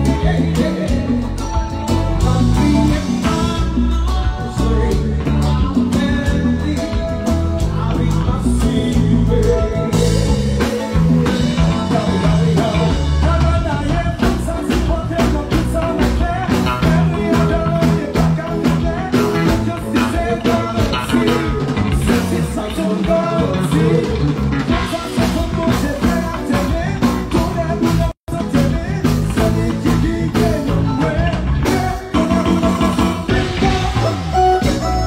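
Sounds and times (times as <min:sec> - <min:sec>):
guitar: 0:00.0 - 0:35.0
heavy bass: 0:00.0 - 0:35.0
person singing: 0:00.0 - 0:35.0
steady drumbeat: 0:00.0 - 0:35.0.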